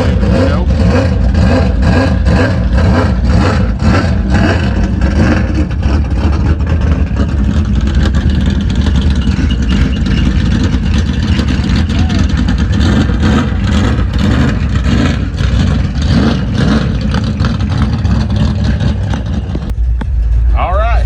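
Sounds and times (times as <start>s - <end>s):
race car engines running loud: 0.0s - 21.0s.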